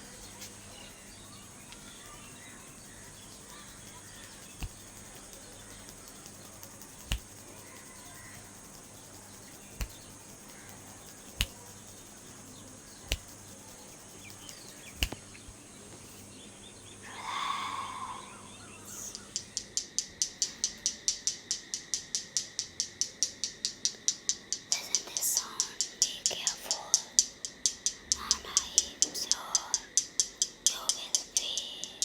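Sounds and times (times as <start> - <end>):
finger snaps: 0.0 - 16.0, 18.9 - 32.0
rapid crisp high clicks: 0.0 - 17.0, 18.8 - 32.0.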